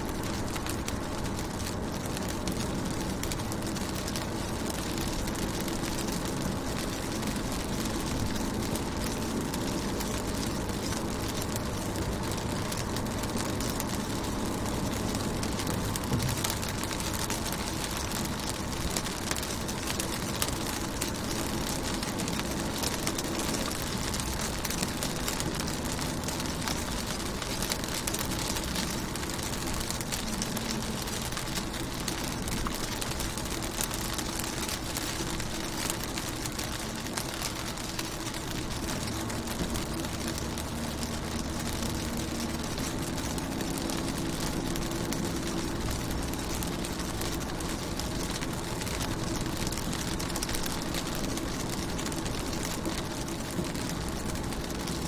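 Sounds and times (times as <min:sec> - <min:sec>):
constant low hum: 0:00.0 - 0:55.0
raindrops ticking on car window: 0:00.0 - 0:55.0
steady rain: 0:00.0 - 0:55.0.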